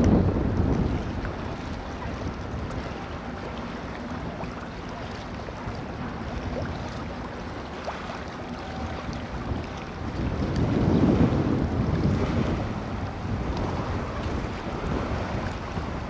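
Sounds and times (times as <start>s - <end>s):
boat engine drone: 0.0s - 16.0s
bow wave and wake wash: 0.0s - 16.0s
wind on microphone: 0.0s - 16.0s.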